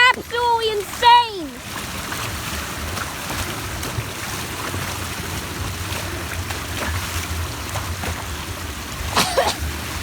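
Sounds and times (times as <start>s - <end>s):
storm runoff rushing into drain: 0.0s - 10.0s.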